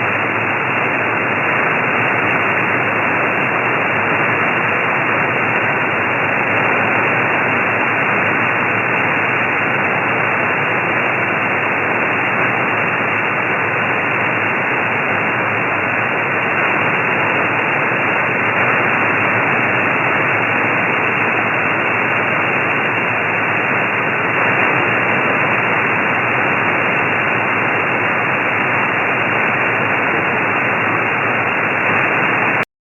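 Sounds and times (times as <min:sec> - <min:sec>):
radio static hiss: 0:00.0 - 0:32.7.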